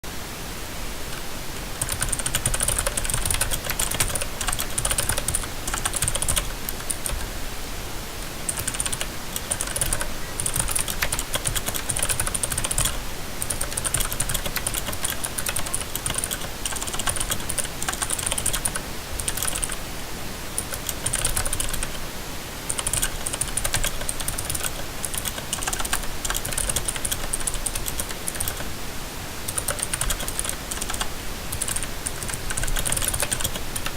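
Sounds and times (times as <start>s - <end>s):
mechanical keyboard typing: 1.1s - 7.4s, 8.4s - 19.8s, 20.6s - 22.0s, 22.7s - 28.7s, 29.5s - 33.9s.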